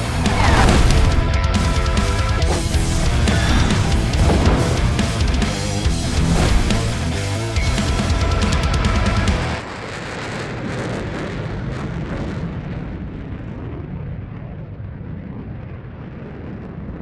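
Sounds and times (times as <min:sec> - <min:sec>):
explosion rumble: 0:00.0 - 0:17.0.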